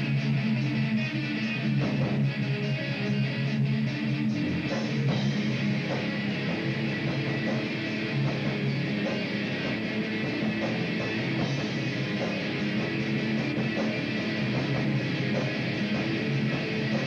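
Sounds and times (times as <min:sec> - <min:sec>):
heavy metal band playing live: 0:00.0 - 0:17.0.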